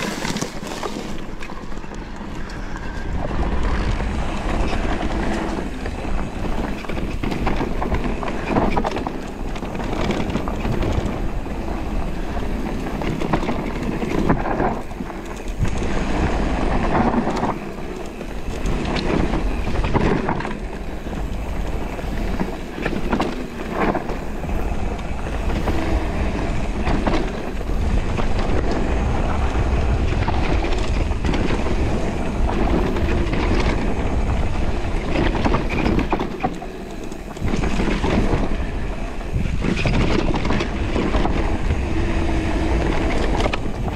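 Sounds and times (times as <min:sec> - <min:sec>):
bike knocking and rattling: 0:00.0 - 0:43.9
bike tyres rumbling over dirt: 0:00.0 - 0:43.9
wind rumbling on microphone: 0:00.0 - 0:43.9.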